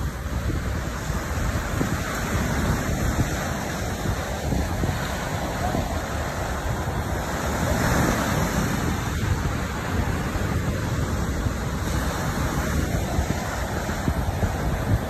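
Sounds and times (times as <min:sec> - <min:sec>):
ocean surf breaking on beach: 0:00.0 - 0:15.0
wind buffeting microphone: 0:00.0 - 0:15.0.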